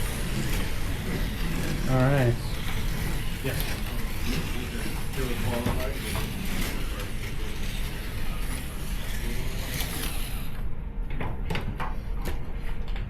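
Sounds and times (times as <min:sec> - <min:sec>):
slot cars whirring: 0:00.0 - 0:10.7.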